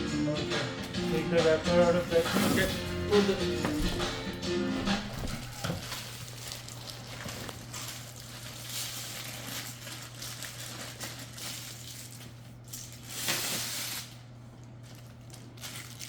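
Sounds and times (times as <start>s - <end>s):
plastic wrapping crinkling: 2.1s - 16.0s.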